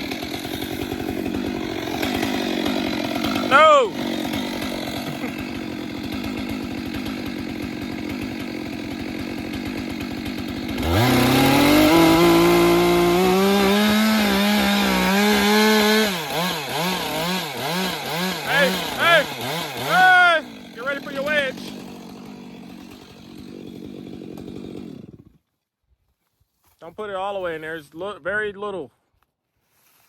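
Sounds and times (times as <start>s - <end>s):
chainsaw idling and revving: 0.0s - 25.5s.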